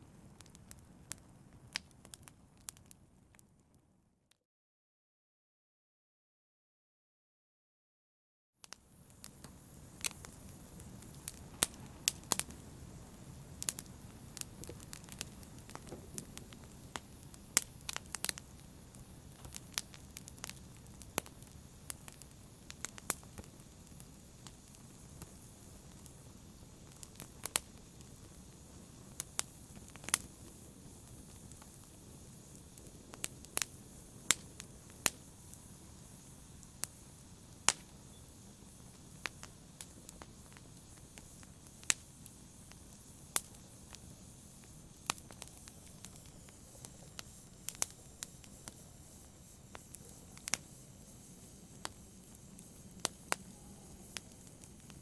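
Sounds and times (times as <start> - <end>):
fire crackling and popping: 0.0 - 3.9, 8.6 - 55.0.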